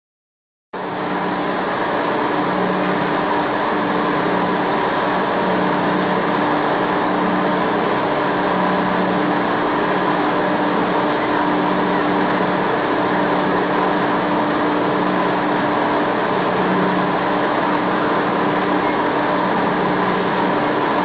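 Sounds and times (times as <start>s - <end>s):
mechanical hum of stirring agitator: 0.8s - 21.0s.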